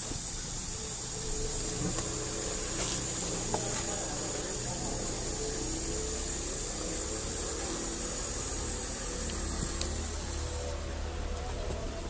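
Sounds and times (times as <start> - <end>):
faint wavering sounds: 0.0 - 12.0
high hiss: 0.0 - 12.0.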